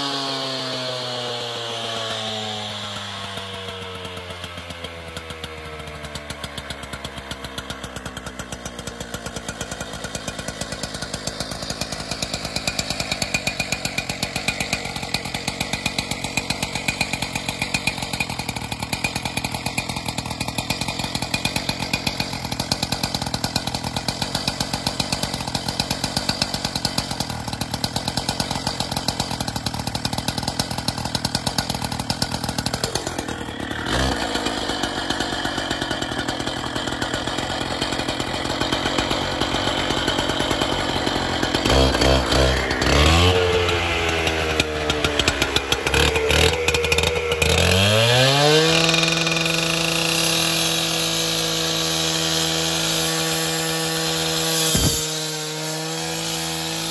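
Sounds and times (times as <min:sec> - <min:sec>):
cut-off saw cutting concrete: 0:00.0 - 0:56.9.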